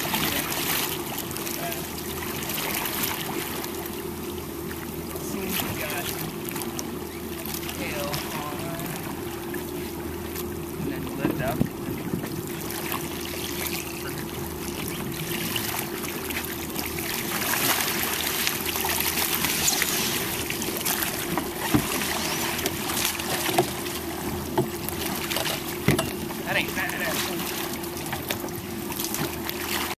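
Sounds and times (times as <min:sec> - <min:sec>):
steady hum: 0:00.0 - 0:29.9
water splashing and sloshing: 0:00.0 - 0:29.9.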